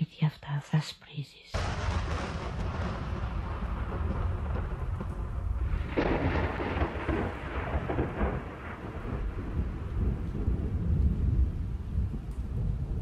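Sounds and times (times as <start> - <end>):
falling rain: 1.6 - 13.0
thunder peal: 1.6 - 13.0
thunder rumbling: 1.6 - 13.0.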